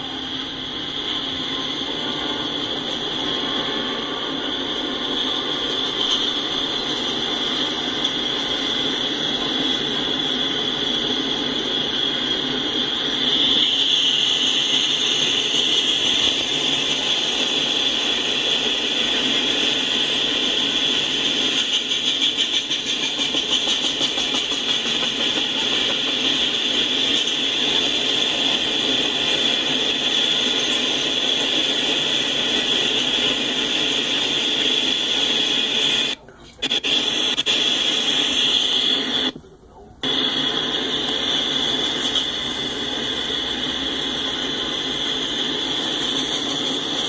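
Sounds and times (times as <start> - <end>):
freight cars rolling on rails: 0.0 - 47.0.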